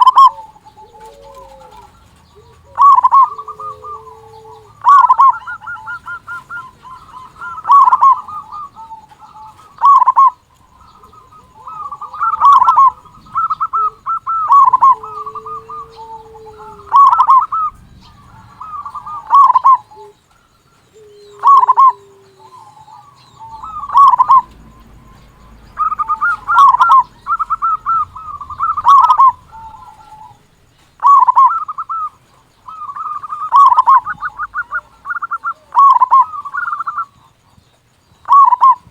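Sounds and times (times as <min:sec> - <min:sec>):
low drawn-out coo: 0:00.0 - 0:37.6
dove cooing: 0:00.0 - 0:38.9.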